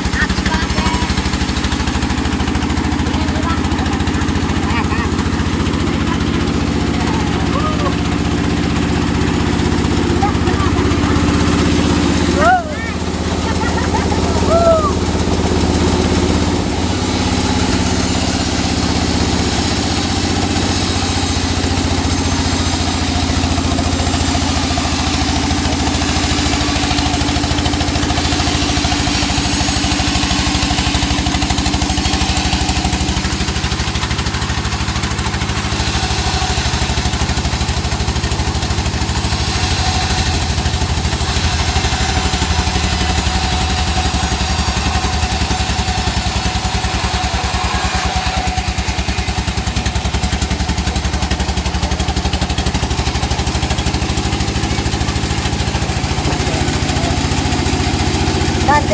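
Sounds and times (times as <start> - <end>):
sawmill engine running: 0.0 - 58.9
wood being sawn: 0.0 - 58.9.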